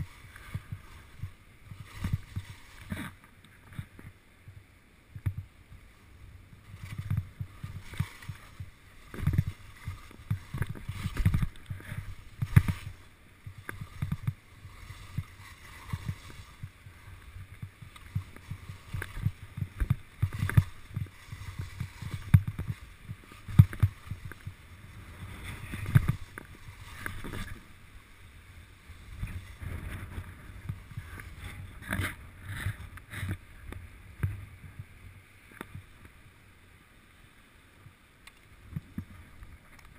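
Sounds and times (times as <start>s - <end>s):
skis scraping over snow: 0.0s - 4.6s, 5.2s - 34.9s.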